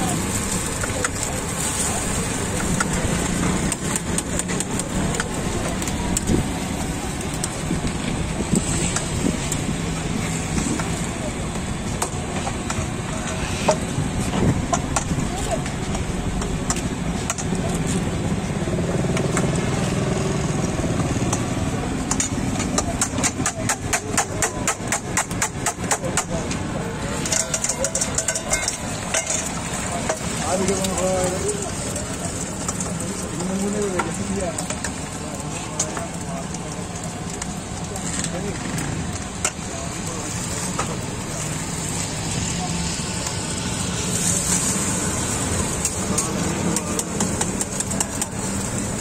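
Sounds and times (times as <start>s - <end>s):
egg sizzling on a griddle: 0.0s - 49.0s.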